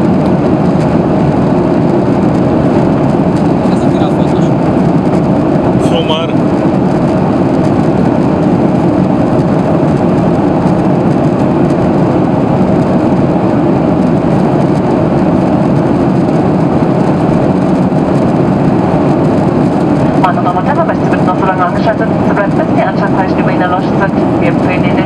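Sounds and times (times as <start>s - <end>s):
airflow in aircraft cabin: 0.0s - 25.0s
jet engines roaring: 0.0s - 25.0s.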